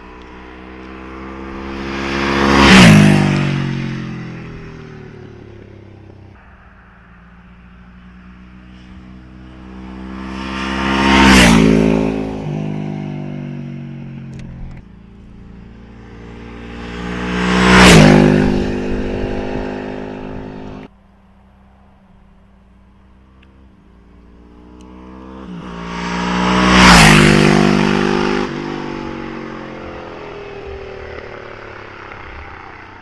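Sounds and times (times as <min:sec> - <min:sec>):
motorcycle engine passing at high speed: 0:00.0 - 0:33.0.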